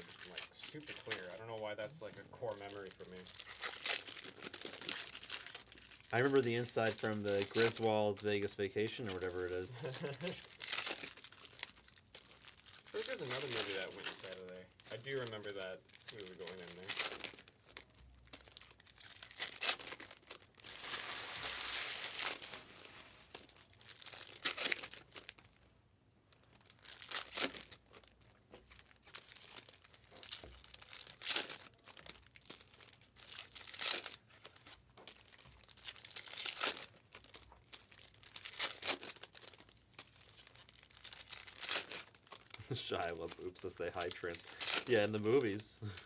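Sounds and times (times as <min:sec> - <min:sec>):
foil wrappers tearing and crinkling: 0:00.0 - 0:25.7, 0:26.3 - 0:46.0.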